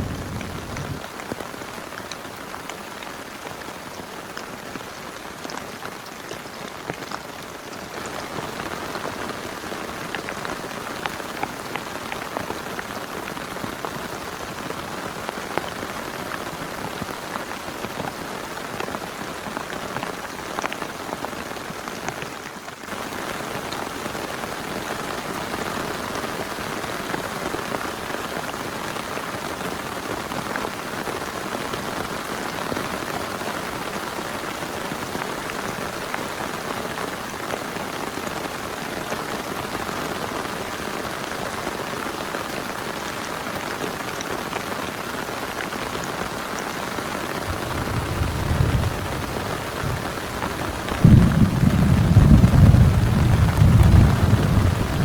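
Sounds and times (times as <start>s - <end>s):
heavy rain on a tent: 0.0s - 55.0s.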